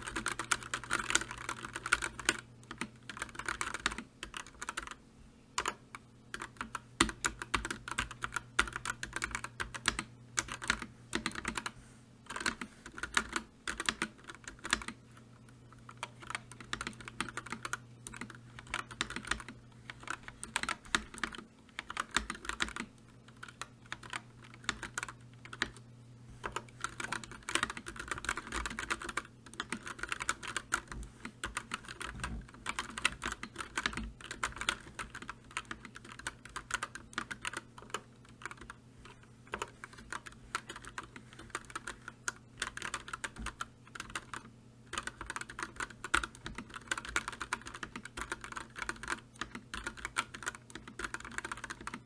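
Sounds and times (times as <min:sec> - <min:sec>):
typing on computer keyboard: 0:00.0 - 0:05.0, 0:05.6 - 0:15.0, 0:15.8 - 0:25.8, 0:26.4 - 0:52.0.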